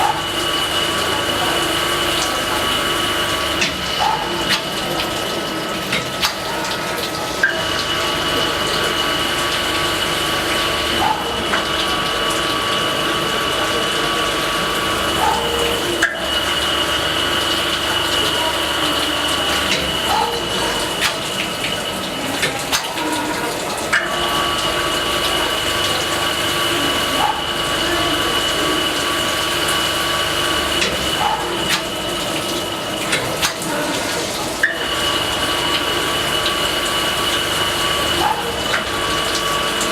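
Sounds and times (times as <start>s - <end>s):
grinder whine: 0.0s - 5.7s, 6.5s - 39.9s
coolant water running: 0.0s - 39.9s.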